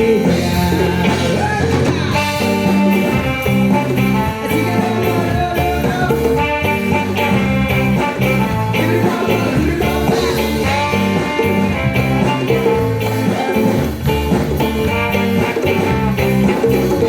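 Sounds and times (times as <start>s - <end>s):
live band playing upbeat music: 0.0s - 17.0s.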